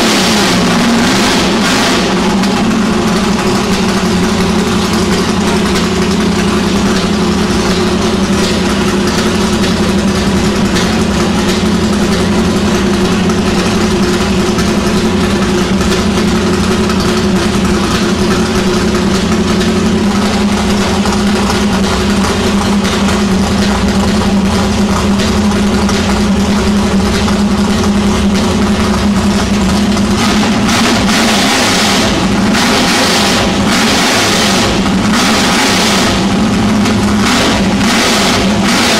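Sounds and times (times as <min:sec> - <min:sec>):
engine idling loudly: 0:00.0 - 0:38.9.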